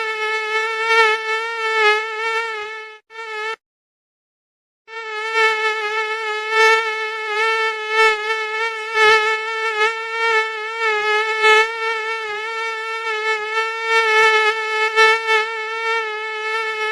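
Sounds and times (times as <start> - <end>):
mosquito whining: 0.0 - 3.6, 4.9 - 16.9.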